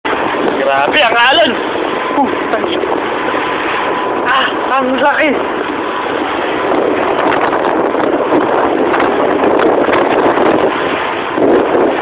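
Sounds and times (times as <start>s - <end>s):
rush of water and hull: 0.0s - 12.0s
wind buffeting microphone: 0.0s - 12.0s.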